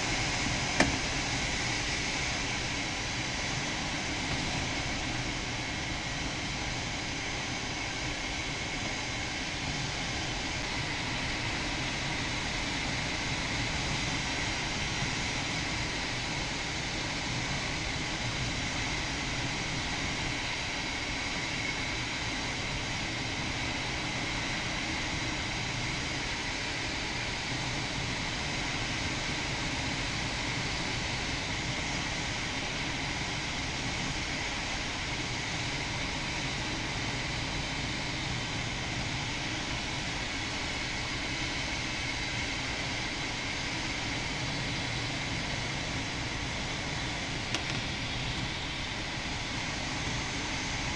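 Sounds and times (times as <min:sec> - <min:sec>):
airflow rushing over glider: 0:00.0 - 0:50.9.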